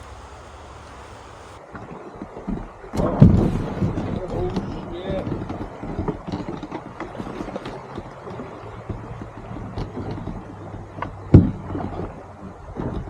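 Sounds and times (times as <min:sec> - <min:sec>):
water splashing around canoe: 0:00.0 - 0:13.0.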